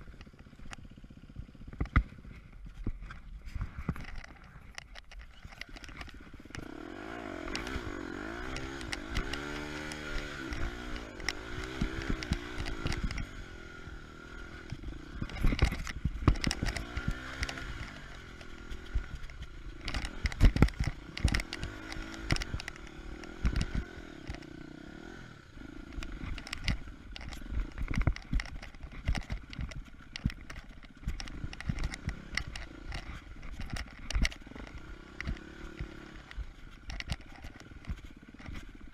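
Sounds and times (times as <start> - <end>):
knocks and clatter from bike: 0.0 - 38.9
motorcycle engine revving: 0.0 - 38.9.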